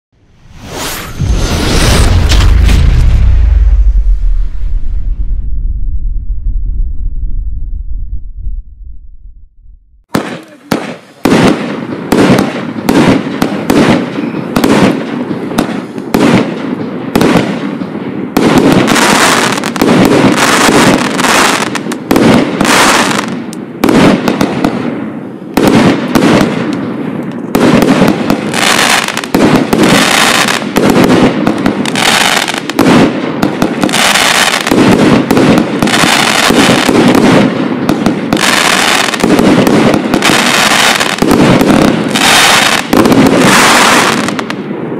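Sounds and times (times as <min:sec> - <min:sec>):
firework crackle: 0:00.2 - 0:05.7, 0:10.1 - 0:44.6
firework shots launching and bursting: 0:00.2 - 0:07.9, 0:10.1 - 0:44.9.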